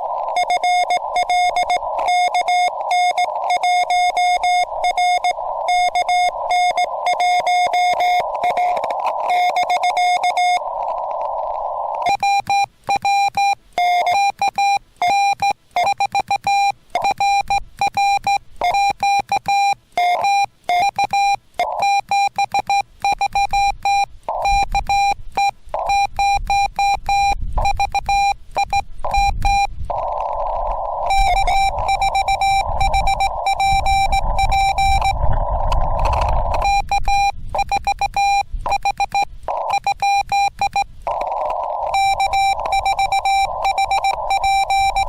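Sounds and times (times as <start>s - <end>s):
morse code whistle tone: 0.0s - 10.8s, 11.7s - 35.3s, 36.2s - 45.0s
radio receiver hiss: 0.0s - 15.0s, 20.8s - 45.0s.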